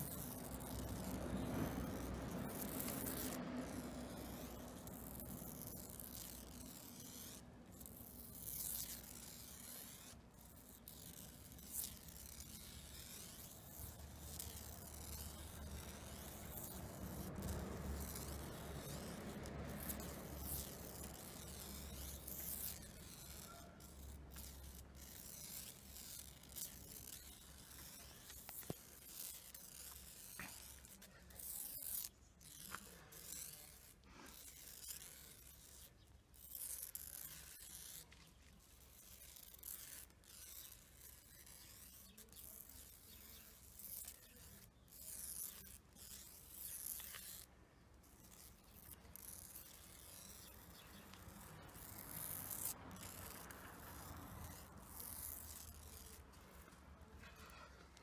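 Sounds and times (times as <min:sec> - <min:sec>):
rustling and scraping: 0:00.0 - 0:58.0.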